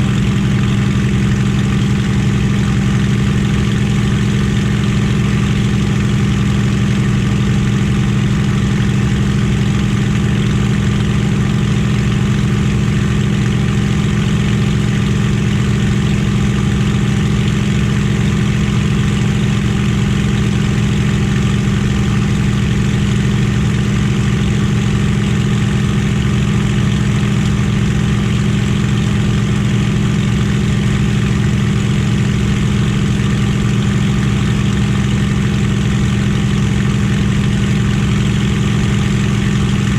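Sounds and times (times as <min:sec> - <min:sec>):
aero engine droning: 0:00.0 - 0:39.9.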